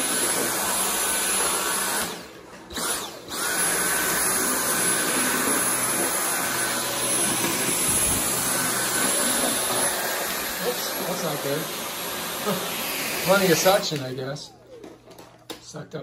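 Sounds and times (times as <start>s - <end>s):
cordless vacuum running: 0.0s - 15.6s.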